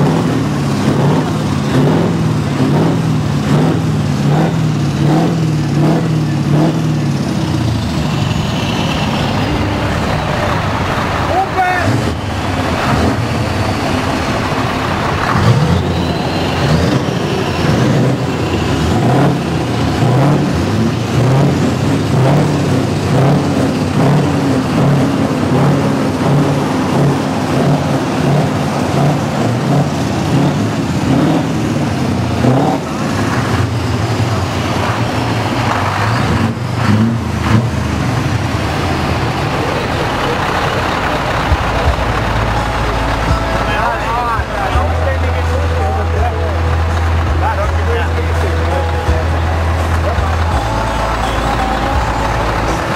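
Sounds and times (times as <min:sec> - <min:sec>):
truck engines revving: 0:00.0 - 0:52.9.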